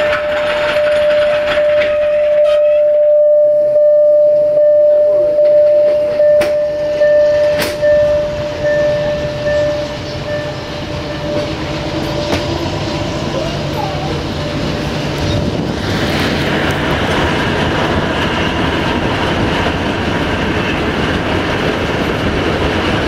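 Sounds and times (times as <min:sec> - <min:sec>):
wheels clacking over rail joints: 0:00.0 - 0:02.9, 0:05.4 - 0:23.0
train whine and rumble: 0:00.0 - 0:23.0.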